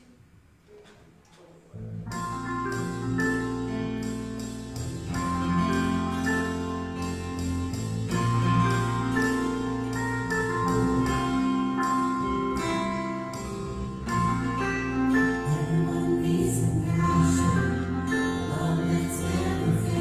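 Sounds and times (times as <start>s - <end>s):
low sustained bass notes: 1.8s - 20.0s
keyboard struck notes: 2.0s - 20.0s
worship band song intro: 2.1s - 20.0s.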